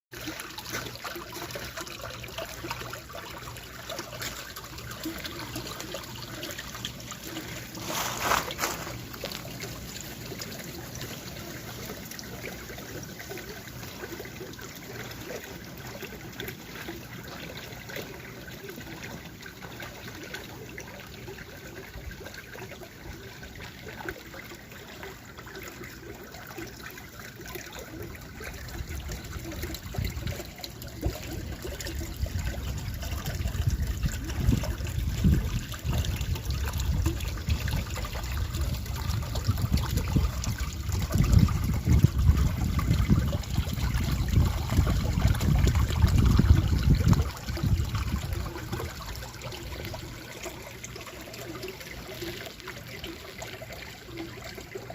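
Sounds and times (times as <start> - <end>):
creek water trickling: 0.1 - 54.9.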